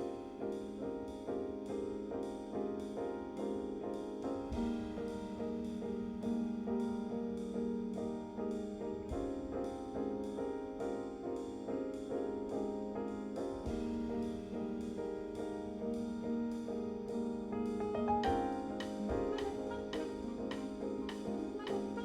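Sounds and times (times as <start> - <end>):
piano playing steady notes: 0.0 - 22.0.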